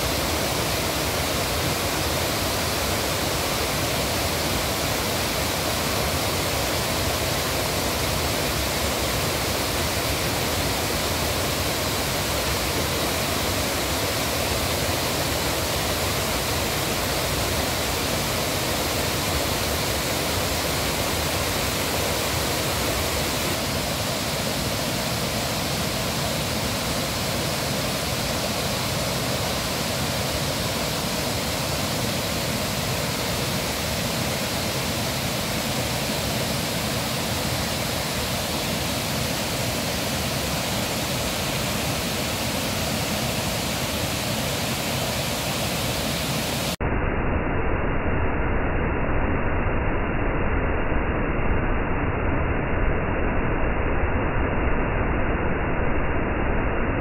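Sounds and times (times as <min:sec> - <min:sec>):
waterfall rushing over rocks: 0:00.0 - 0:46.8.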